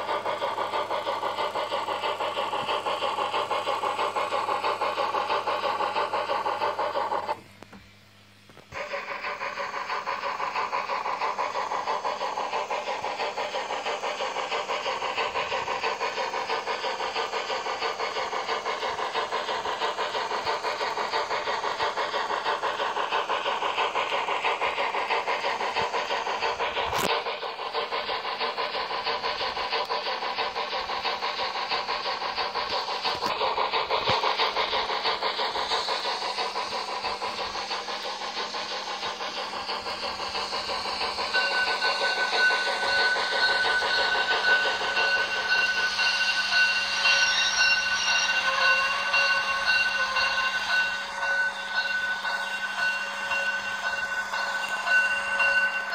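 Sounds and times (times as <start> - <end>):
model steam locomotive chuffing: 0.0 - 55.9.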